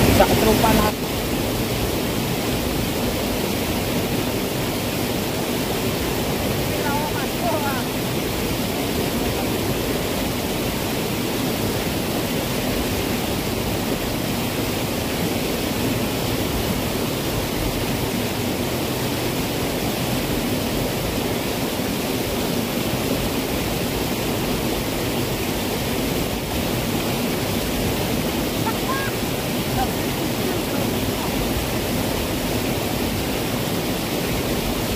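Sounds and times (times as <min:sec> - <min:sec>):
water rushing through ditch: 0:00.0 - 0:34.9.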